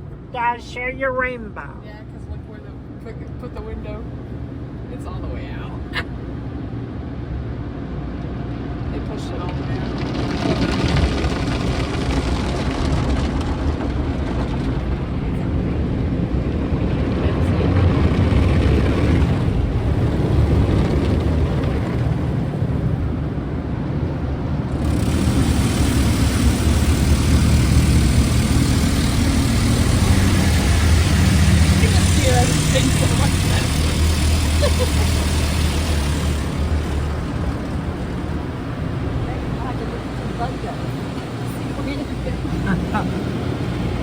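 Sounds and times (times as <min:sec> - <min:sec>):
car wash low rumble: 0:00.0 - 0:44.0
car wash rushing noise: 0:06.3 - 0:44.0.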